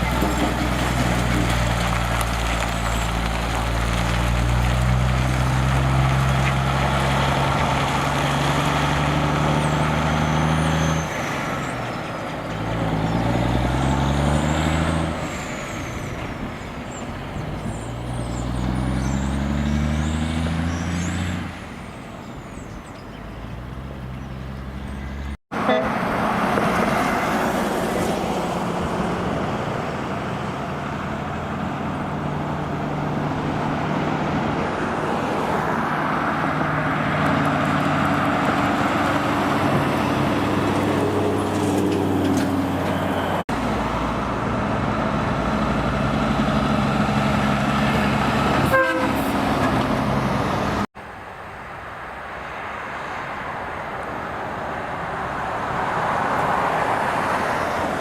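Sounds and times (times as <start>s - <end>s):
truck diesel engine accelerating: 0.0s - 51.1s
truck engine and road noise: 0.0s - 58.0s.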